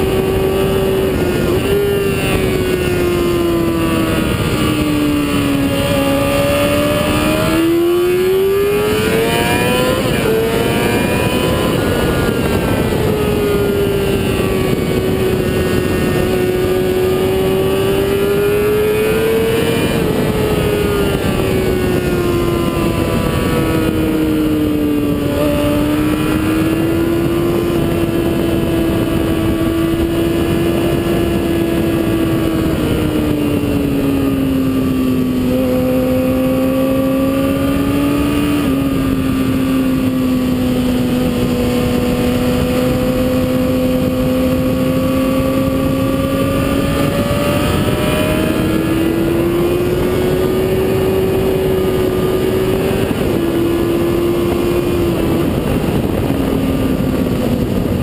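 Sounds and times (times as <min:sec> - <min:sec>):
motorcycle engine running hard: 0:00.0 - 0:58.0
wind rushing: 0:00.0 - 0:58.0.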